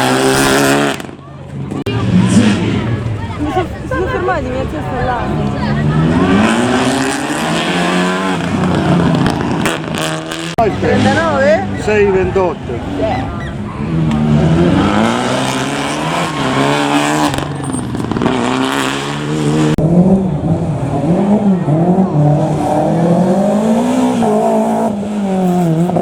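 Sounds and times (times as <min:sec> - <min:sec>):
rally car engine at full throttle: 0:00.0 - 0:26.0.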